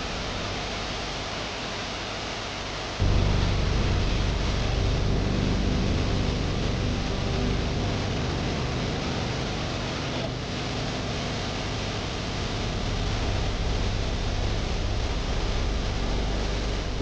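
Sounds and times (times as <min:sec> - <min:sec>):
heavy low rumble: 0:03.0 - 0:17.0.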